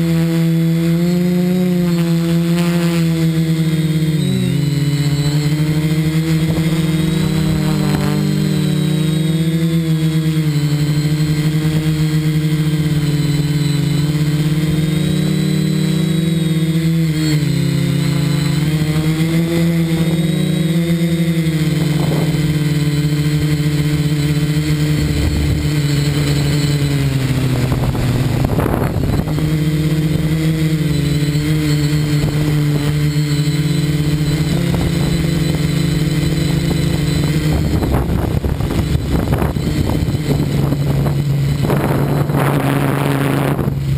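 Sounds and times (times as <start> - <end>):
drone motors buzzing: 0.0 - 43.9
rush of noise: 3.1 - 43.9.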